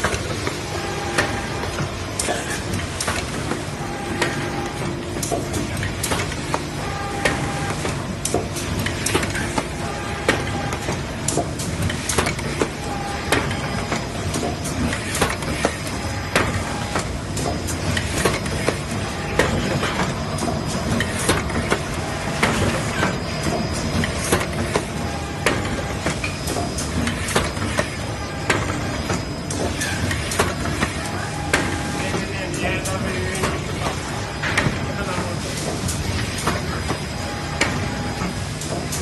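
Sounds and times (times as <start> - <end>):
machine mechanical hum: 0.0 - 39.0.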